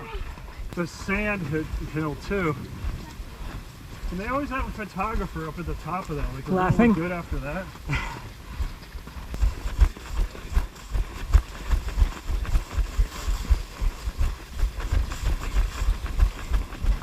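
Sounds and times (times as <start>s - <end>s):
running footfalls on a trail: 0.0s - 17.0s.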